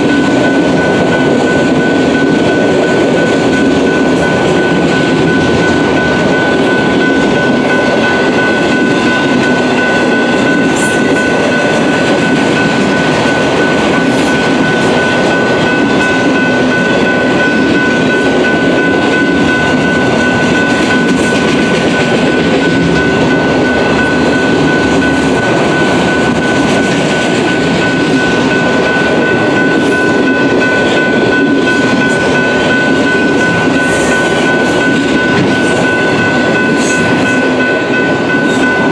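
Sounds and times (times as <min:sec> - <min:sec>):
high-pitched tone: 0:00.0 - 0:38.9
train wheels rolling on rail: 0:00.0 - 0:38.9.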